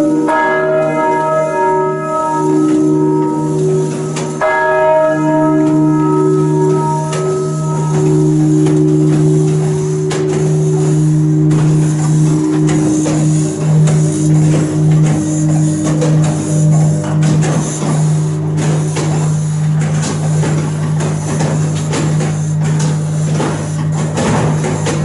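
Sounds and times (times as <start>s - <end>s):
bell clapper knocks: 0.0s - 25.0s
large church bells ringing: 0.0s - 25.0s.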